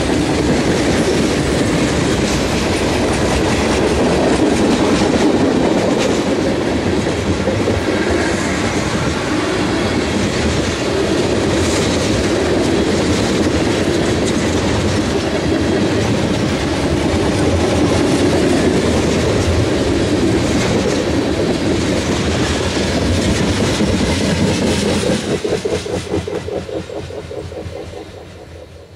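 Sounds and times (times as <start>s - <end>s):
wheels clacking over rail joints: 0.0s - 28.8s
freight train rumble and rattle: 0.0s - 28.9s.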